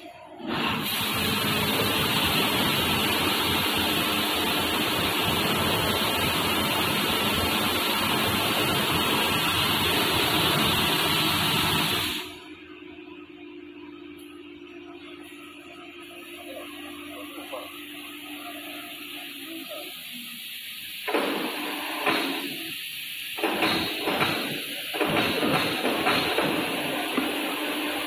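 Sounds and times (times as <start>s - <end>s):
car wash rushing hiss: 0.4s - 12.4s, 16.0s - 28.0s.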